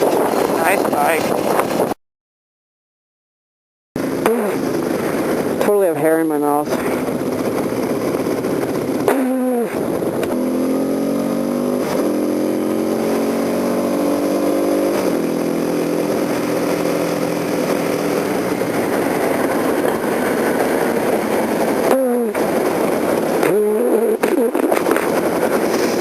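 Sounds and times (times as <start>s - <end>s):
wind noise on microphone: 0.0s - 2.0s, 4.0s - 26.0s
motorcycle engine accelerating: 4.0s - 26.0s.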